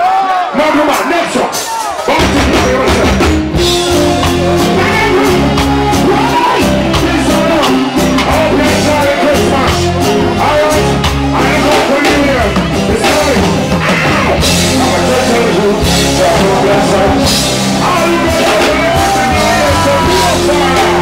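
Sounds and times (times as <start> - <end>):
live reggae band: 0.0 - 21.0
man singing into a microphone: 4.0 - 21.0.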